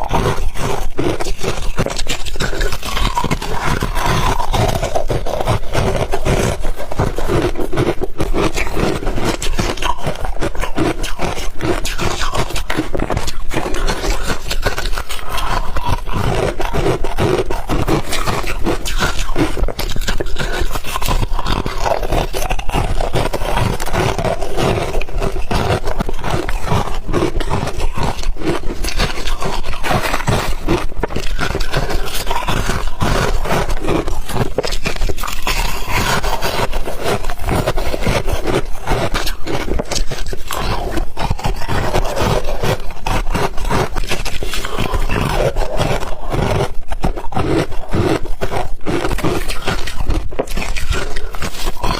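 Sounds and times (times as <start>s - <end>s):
ice being chewed: 0.0s - 51.9s.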